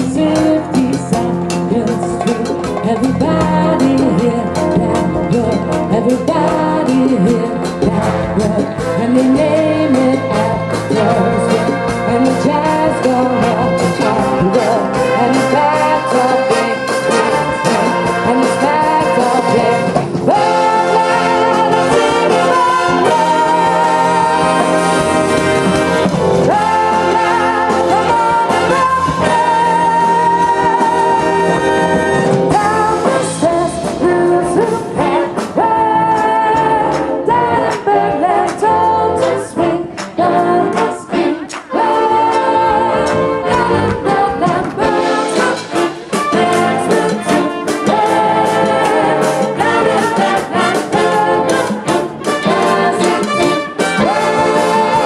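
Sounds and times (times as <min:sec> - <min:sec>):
person singing: 0:00.0 - 0:25.6, 0:26.4 - 0:55.0
brass section playing: 0:00.0 - 0:55.0
steady drum beat: 0:00.0 - 0:55.0.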